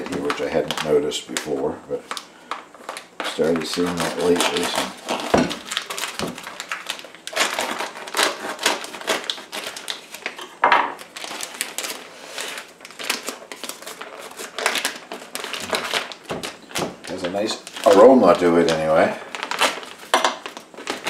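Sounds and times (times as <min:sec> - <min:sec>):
plastic bag crinkling: 0:00.0 - 0:21.0
plastic bag rustle: 0:00.0 - 0:21.0.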